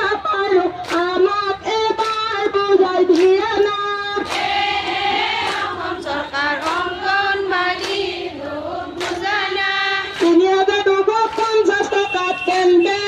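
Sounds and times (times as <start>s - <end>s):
women singing in unison: 0.0s - 13.0s.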